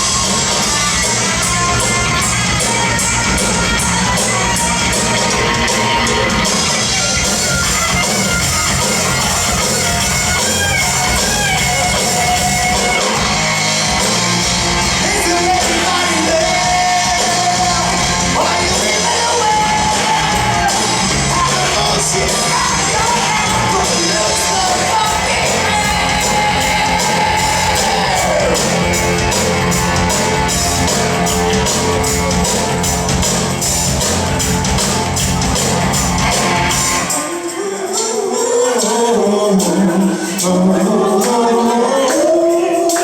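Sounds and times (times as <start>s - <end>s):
drum kit cymbal beat: 0.0s - 43.0s
live rock band playing: 0.0s - 43.0s.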